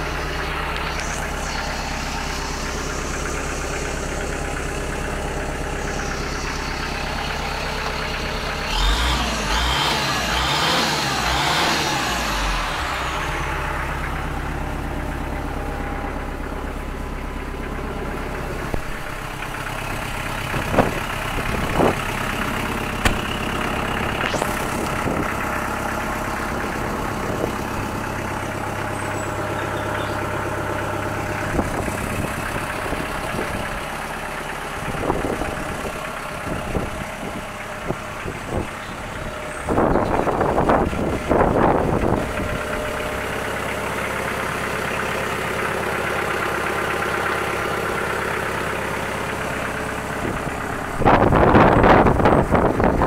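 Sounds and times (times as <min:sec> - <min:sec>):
loud rough noise: 0:00.0 - 0:16.8, 0:17.7 - 0:47.2
tractor diesel engine idling: 0:00.0 - 0:53.0.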